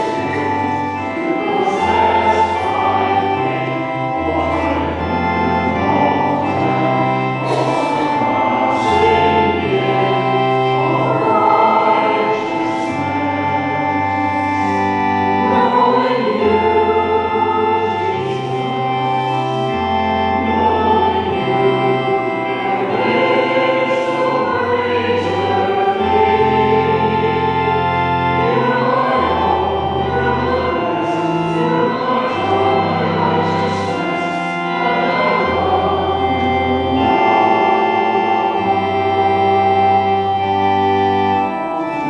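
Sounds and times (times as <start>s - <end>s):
choir singing a hymn: 0.0s - 42.0s
organ bass notes: 0.0s - 42.0s.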